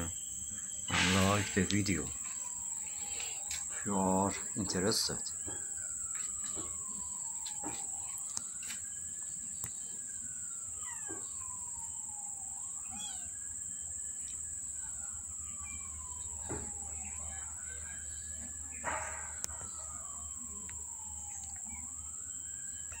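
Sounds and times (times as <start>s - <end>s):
high-pitched insect drone: 0.0s - 23.0s
wailing siren: 0.0s - 23.0s.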